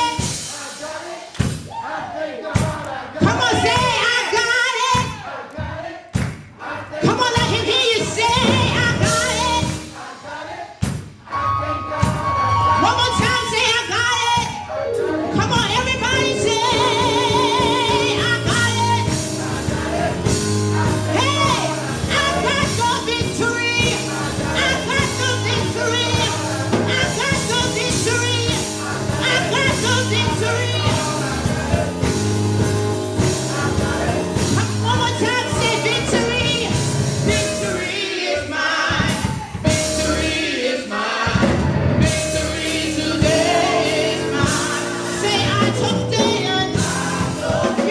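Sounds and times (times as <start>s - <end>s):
gospel music with singing: 0.0s - 47.9s.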